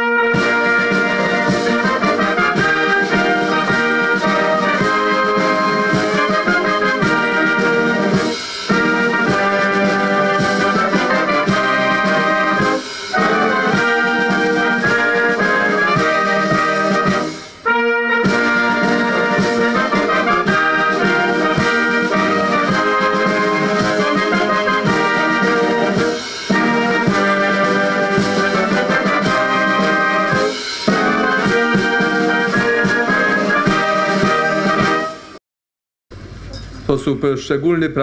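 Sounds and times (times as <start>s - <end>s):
brass band playing: 0.0s - 35.4s.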